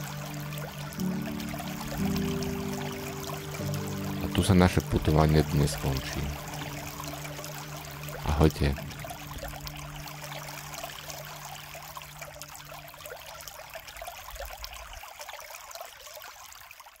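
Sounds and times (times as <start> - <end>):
spring water trickling and splashing: 0.0 - 17.0.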